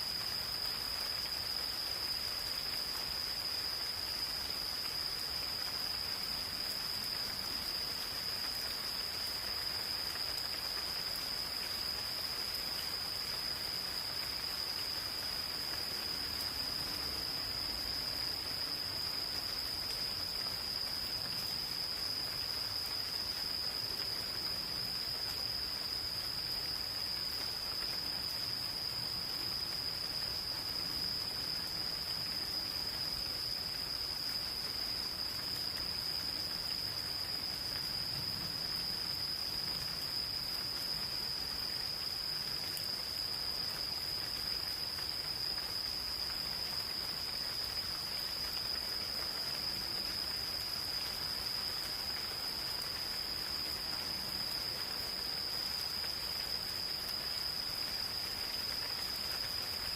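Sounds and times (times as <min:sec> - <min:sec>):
insects trilling: 0:00.0 - 0:59.9
light rain falling: 0:00.0 - 0:59.9.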